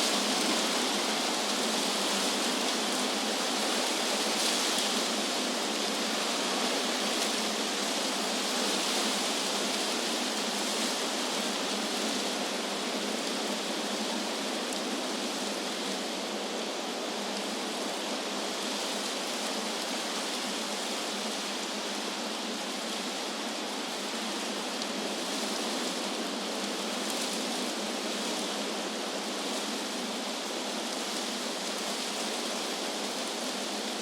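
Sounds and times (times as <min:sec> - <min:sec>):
wind rustling leaves: 0:00.0 - 0:34.0.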